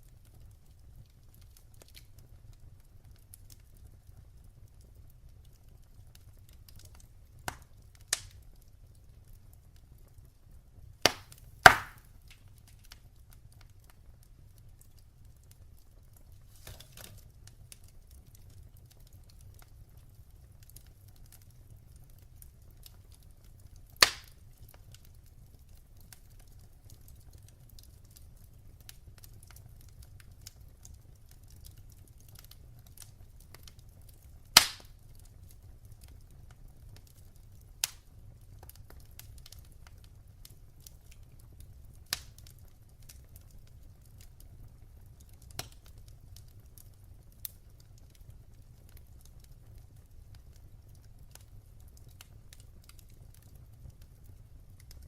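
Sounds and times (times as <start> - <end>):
fire crackling: 0.0 - 55.0
wood fire sharp pops: 4.9 - 8.8, 10.8 - 13.9, 14.8 - 55.0.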